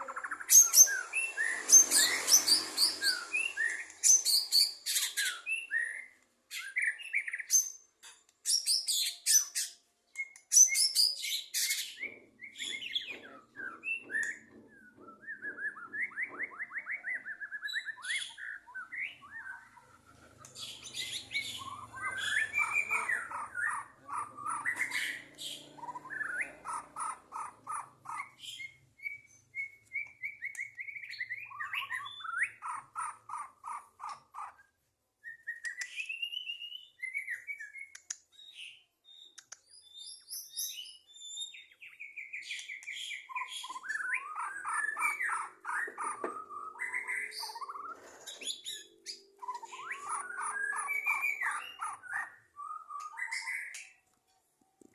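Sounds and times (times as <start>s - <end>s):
songbird singing: 8.6s - 54.2s.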